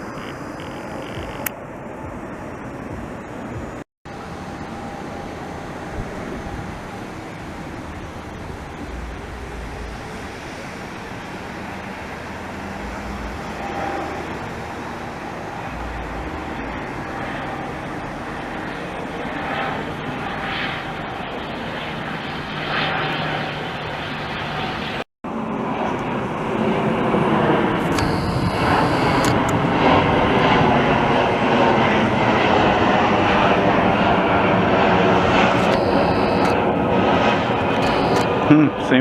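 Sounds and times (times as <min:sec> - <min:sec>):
jet airliner passing overhead: 0:00.0 - 0:39.0.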